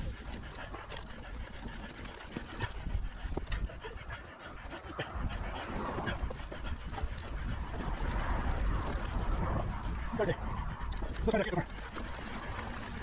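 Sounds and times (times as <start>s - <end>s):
mountain bike rumbling and rattling: 0.0s - 13.0s
rapid panting breaths: 0.0s - 13.0s.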